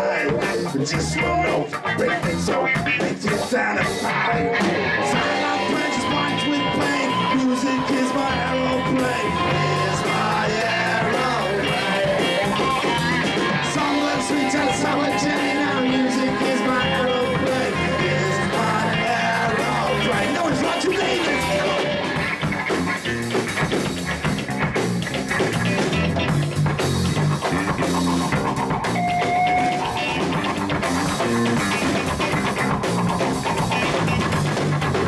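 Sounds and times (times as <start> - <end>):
electric guitar: 0.0 - 35.0
live rock band playing: 0.0 - 35.0.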